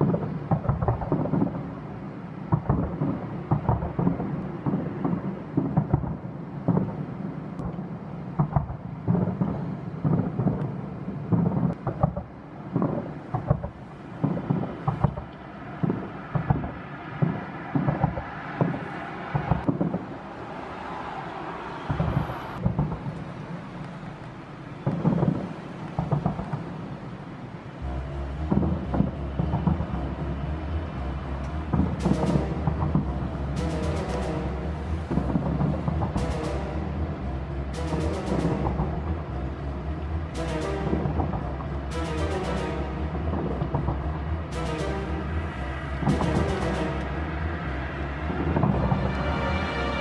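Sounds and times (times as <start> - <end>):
fireworks booming: 0.0 - 20.7, 21.8 - 23.8, 24.7 - 49.4.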